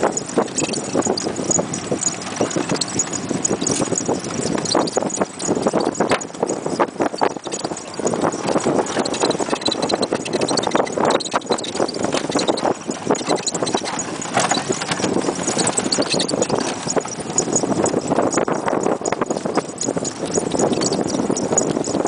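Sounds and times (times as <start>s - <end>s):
hooves clip-clopping on dirt: 0.0s - 22.0s.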